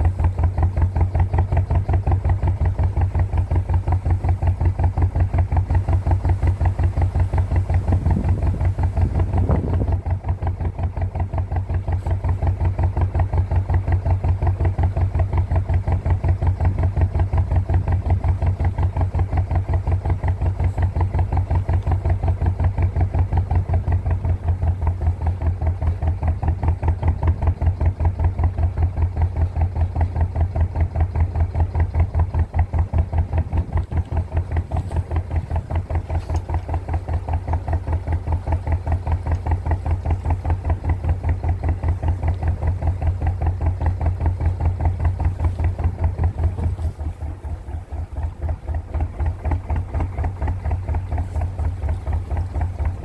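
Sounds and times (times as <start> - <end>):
diesel boat engine chugging: 0.0 - 53.0.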